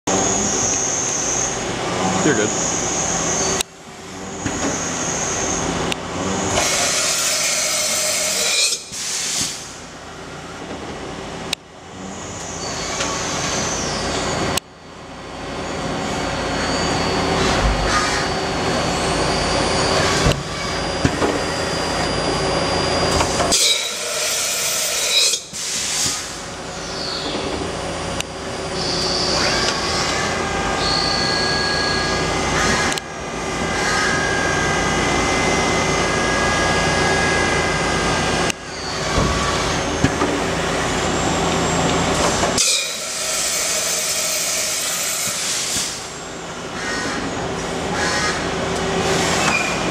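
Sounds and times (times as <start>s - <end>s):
machining center whine and hum: 0.1s - 49.9s.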